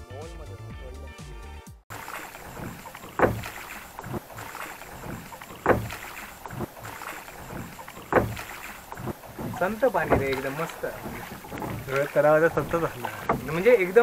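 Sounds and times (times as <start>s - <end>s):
oar strokes swishing water: 1.9s - 14.0s.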